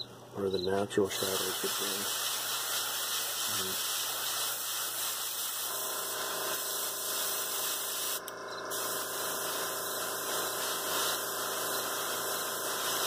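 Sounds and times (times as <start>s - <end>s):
steady hum: 0.0s - 13.0s
airbrush hissing: 1.1s - 13.0s.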